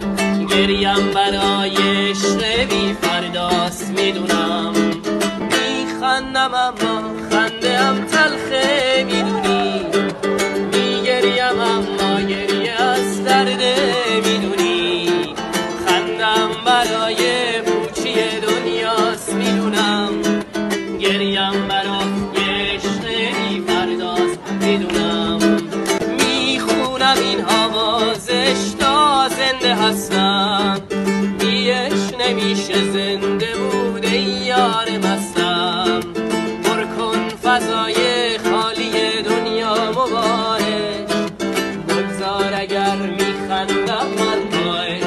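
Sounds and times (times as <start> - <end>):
acoustic guitar strumming: 0.0 - 45.0
man singing with vibrato: 0.0 - 45.0.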